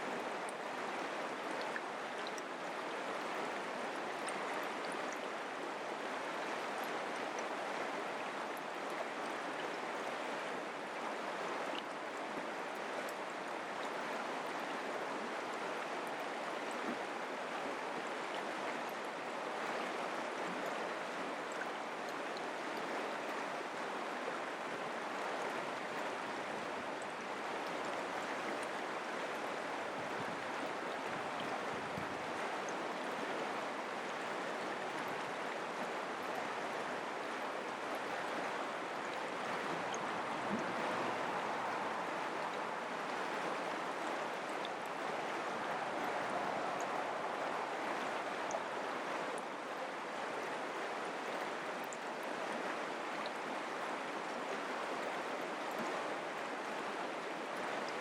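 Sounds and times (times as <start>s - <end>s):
creek flowing: 0.0s - 58.0s.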